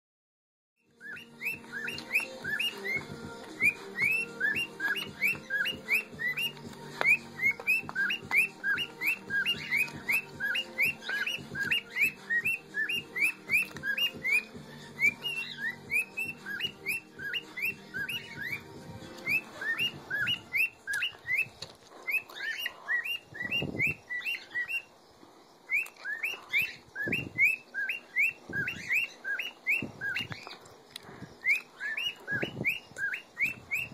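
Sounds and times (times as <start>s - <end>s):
cockatiel chirping: 0.9s - 25.0s, 25.7s - 33.9s.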